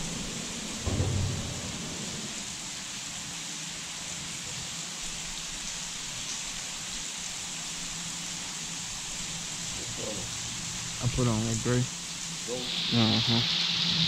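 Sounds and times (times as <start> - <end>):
rain falling on water: 0.0 - 14.0.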